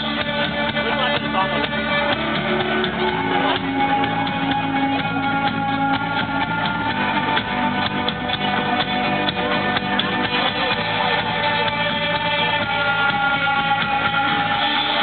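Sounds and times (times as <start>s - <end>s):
guitars: 0.0s - 15.0s
rock band playing live: 0.0s - 15.0s.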